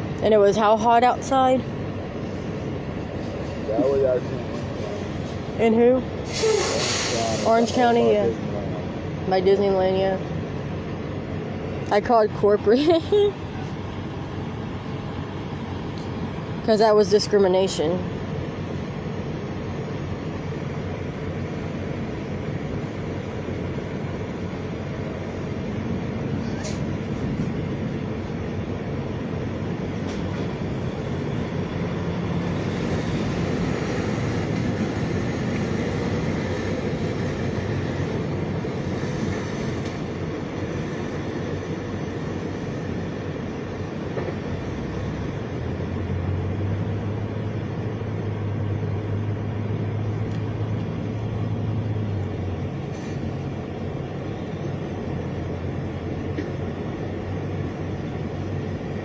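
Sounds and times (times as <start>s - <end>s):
low engine hum: 0.0s - 59.0s
traffic rumble: 0.0s - 59.0s.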